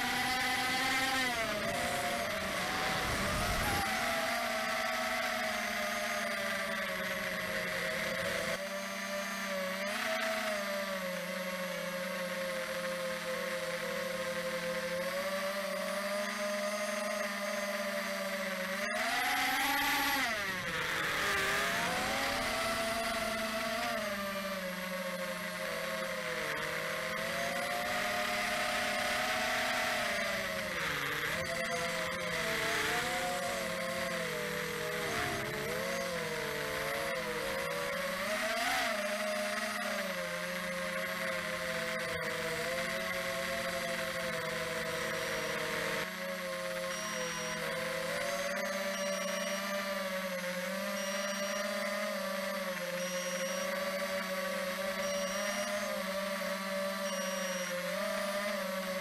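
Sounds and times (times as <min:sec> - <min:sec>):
model airplane motor droning: 0:00.0 - 0:59.0.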